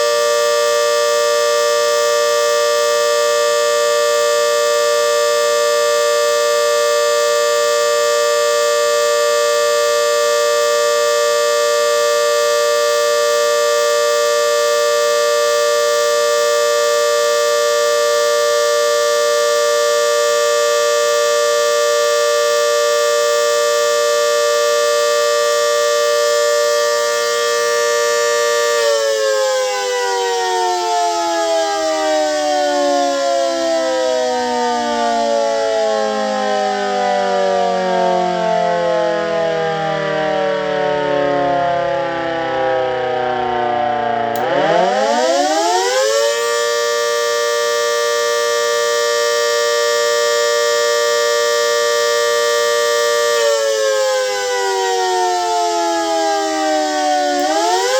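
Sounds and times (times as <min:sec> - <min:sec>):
siren steady alert tone: 0:00.0 - 0:57.9.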